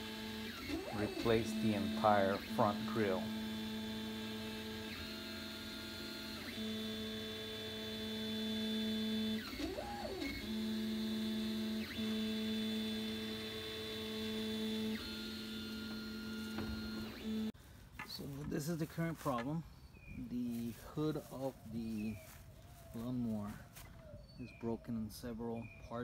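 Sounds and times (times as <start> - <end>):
stepper motors whining: 0.0 - 26.0.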